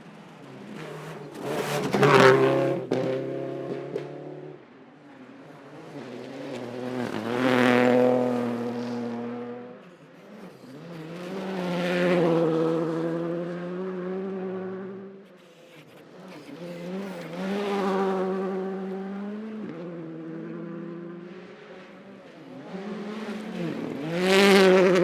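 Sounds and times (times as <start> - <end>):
rally car engine at high revs passing: 0.0 - 25.0.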